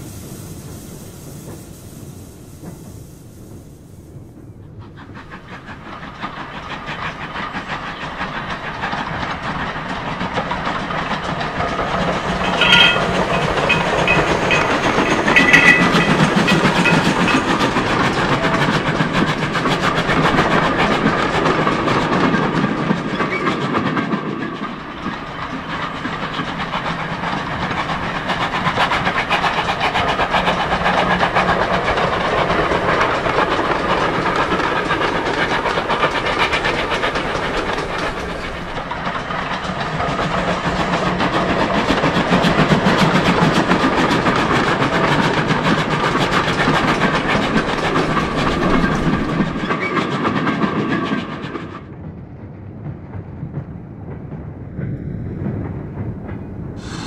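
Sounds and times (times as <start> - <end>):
steam train wheels clicking: 0.0 - 57.0.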